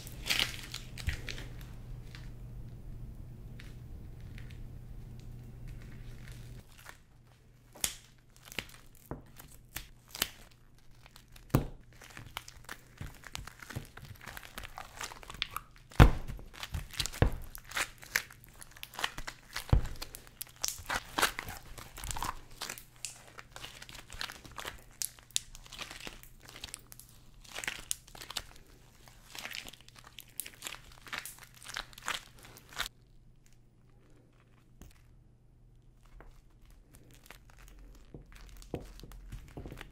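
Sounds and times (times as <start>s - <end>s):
sticky crackles of sugar dough: 0.0s - 2.8s, 3.5s - 39.9s.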